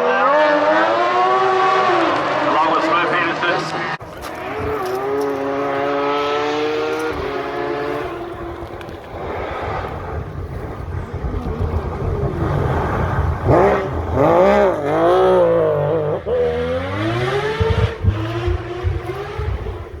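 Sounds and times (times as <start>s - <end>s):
rotary engine revving hard: 0.0s - 20.0s
sharp exhaust pops: 4.0s - 20.0s.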